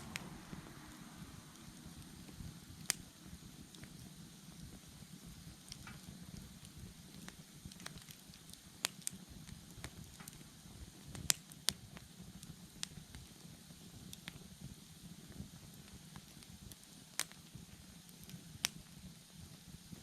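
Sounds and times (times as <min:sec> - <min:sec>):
burning wood crackling and popping: 0:00.0 - 0:20.0
fire flame rustling: 0:00.0 - 0:20.0.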